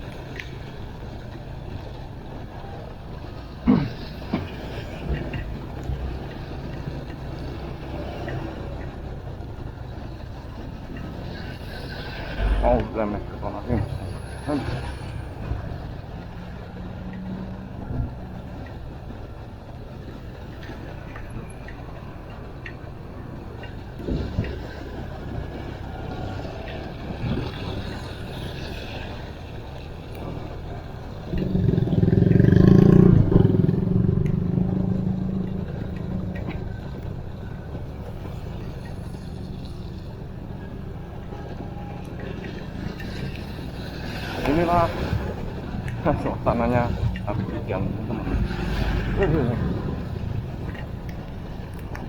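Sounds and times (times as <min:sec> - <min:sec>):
vehicle engine rumble: 0:00.0 - 0:52.0.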